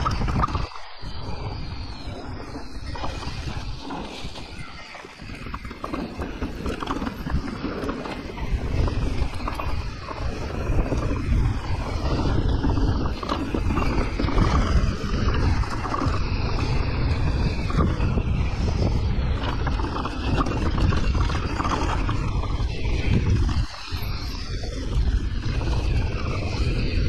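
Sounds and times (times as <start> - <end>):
bike rattling: 0.0 - 27.0
tyres scrabbling: 0.0 - 27.0
wind on microphone: 0.0 - 27.0.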